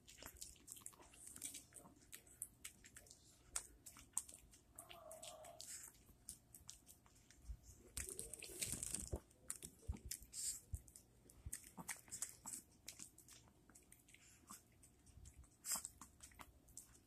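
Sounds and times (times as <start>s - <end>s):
dog chewing bread: 0.0s - 7.3s, 8.0s - 17.0s.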